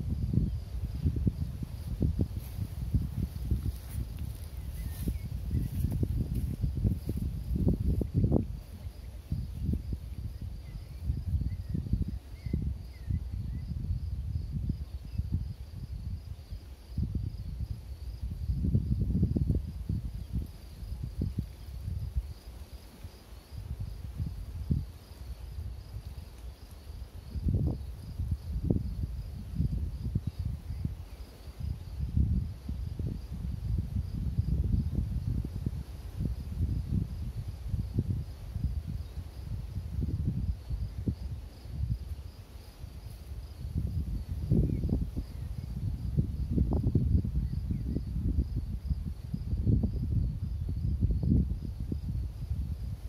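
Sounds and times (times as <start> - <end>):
insect trill: 0.0 - 53.0
wind buffeting microphone: 0.0 - 53.0.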